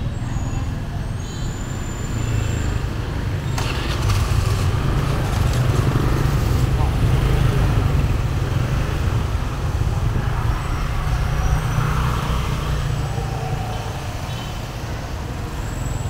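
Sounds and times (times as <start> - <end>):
motor scooters running: 2.1 - 16.0.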